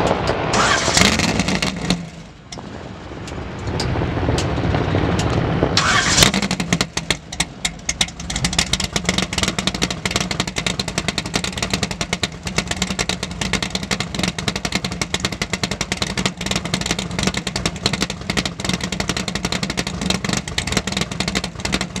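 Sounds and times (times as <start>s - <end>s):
engine revving and choppy idle: 0.0s - 22.0s.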